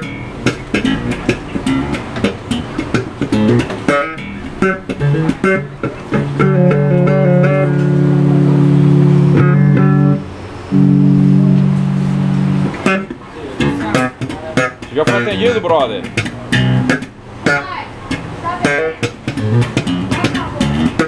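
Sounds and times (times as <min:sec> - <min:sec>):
electric bass notes: 0:00.0 - 0:21.0.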